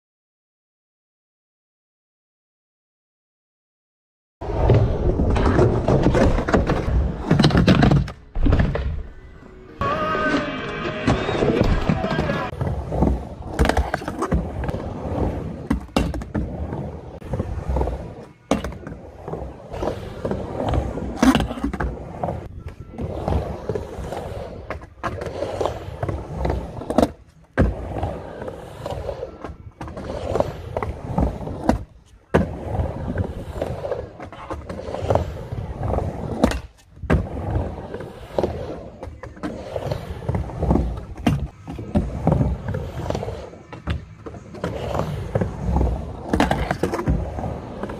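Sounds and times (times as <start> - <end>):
skateboard rolling on ramp: 4.4 - 47.9.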